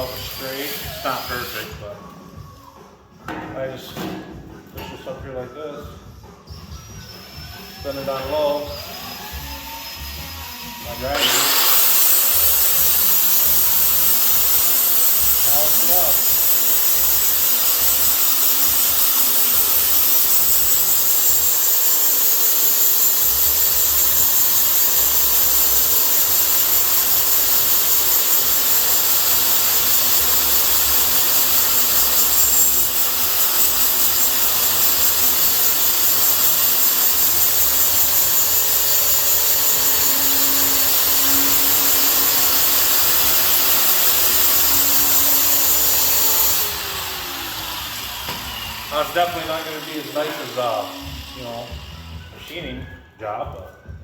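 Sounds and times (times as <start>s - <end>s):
electric grinder grinding metal: 0.0s - 1.8s, 7.2s - 52.2s.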